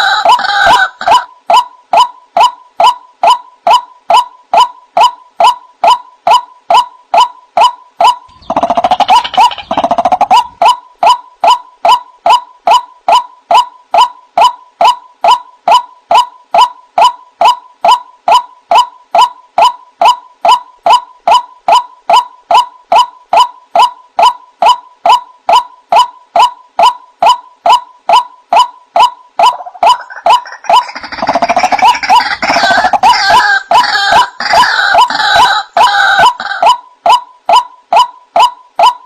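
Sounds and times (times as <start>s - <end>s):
bird calling kru-ak: 0.0s - 39.0s.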